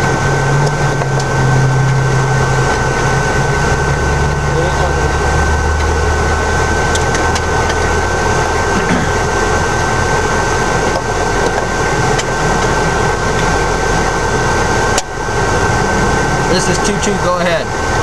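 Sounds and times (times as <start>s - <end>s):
high-pitched whine: 0.0s - 18.0s
vehicle engine idling: 0.0s - 18.0s.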